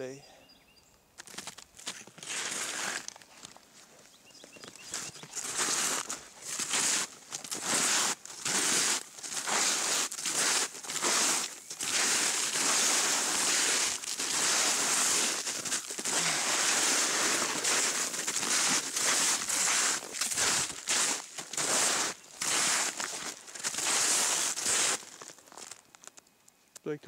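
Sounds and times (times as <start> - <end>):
snowshoes crunching through snow: 1.2 - 25.8.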